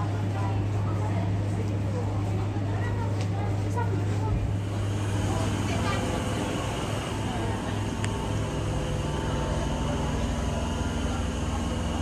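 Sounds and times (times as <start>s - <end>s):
stationary train humming: 0.0s - 12.0s.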